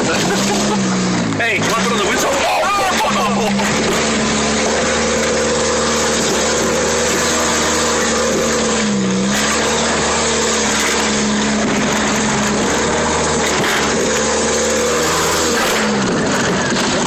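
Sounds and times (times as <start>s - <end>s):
car engine revving: 0.0s - 17.0s
loud steady rushing noise: 0.0s - 17.0s.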